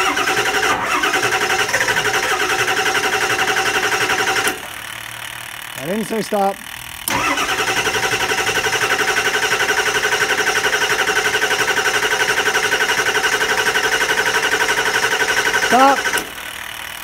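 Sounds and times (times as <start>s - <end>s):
starter motor cranking diesel engine: 0.0s - 17.0s.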